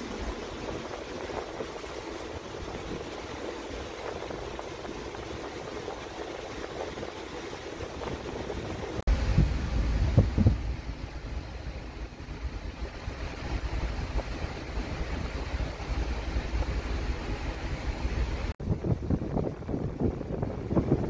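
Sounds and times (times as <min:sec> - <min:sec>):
low gusty rumble: 0:00.0 - 0:21.0
outdoor background noise: 0:00.0 - 0:21.0.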